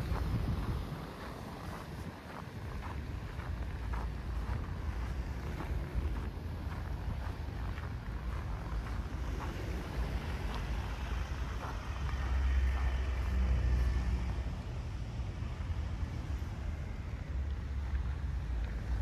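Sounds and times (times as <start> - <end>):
road traffic rumble: 0.0 - 19.0
wind: 0.0 - 19.0.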